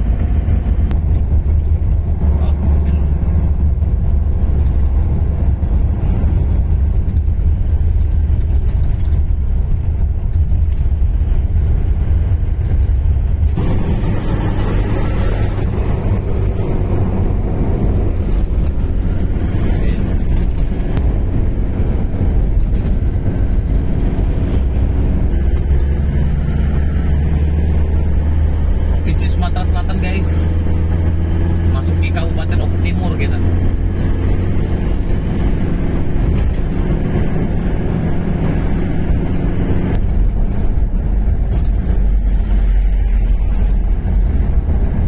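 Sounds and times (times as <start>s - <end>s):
truck diesel engine driving: 0.0s - 45.0s.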